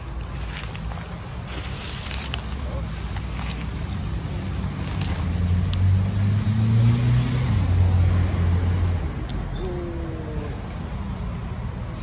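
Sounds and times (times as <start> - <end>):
motor vehicle engine hum: 0.0 - 12.0.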